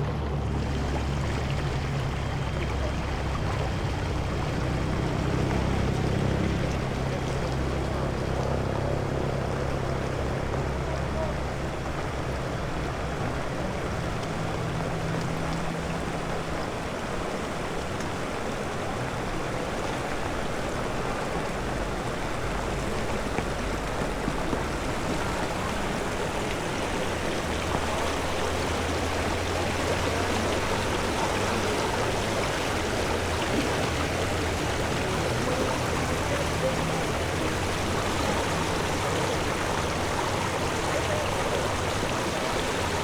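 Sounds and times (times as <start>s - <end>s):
fast-flowing floodwater rushing: 0.0s - 43.0s.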